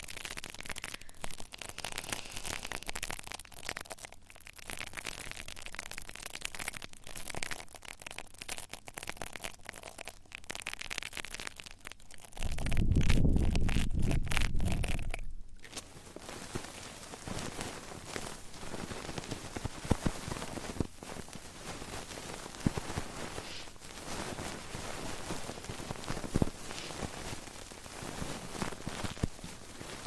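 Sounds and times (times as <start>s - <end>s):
crackling and scratching: 0.0s - 30.0s.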